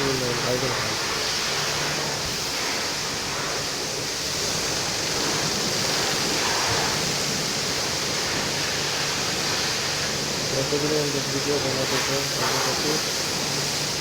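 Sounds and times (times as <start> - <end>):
high pressure water spraying: 0.0 - 14.0.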